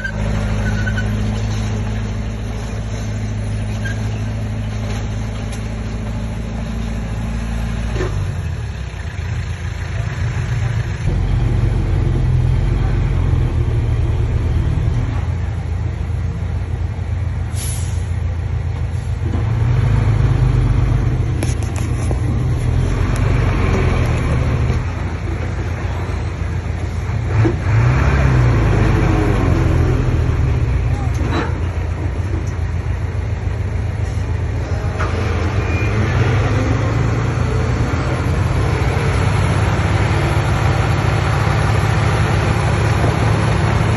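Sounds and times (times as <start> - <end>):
bulldozer diesel engine under load: 0.0 - 43.9.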